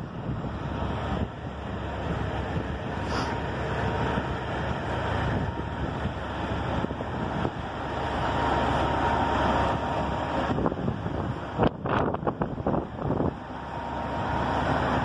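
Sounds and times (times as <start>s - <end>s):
truck diesel engine running: 0.0s - 15.0s
wind buffeting microphone: 0.0s - 15.0s.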